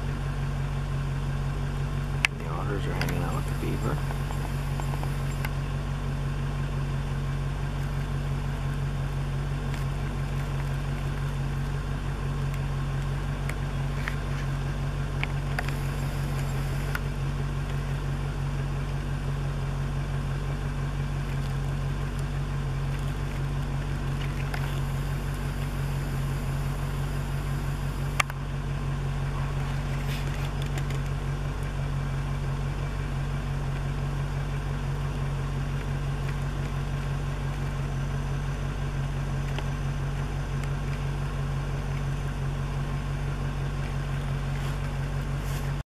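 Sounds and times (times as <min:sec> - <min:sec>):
engine idling: 0:00.0 - 0:45.8.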